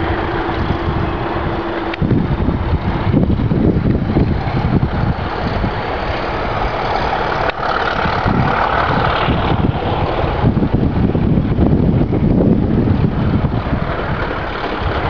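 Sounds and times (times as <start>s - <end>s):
diesel locomotive engine throbbing: 0.0s - 15.0s
higher rushing tone: 0.0s - 15.0s.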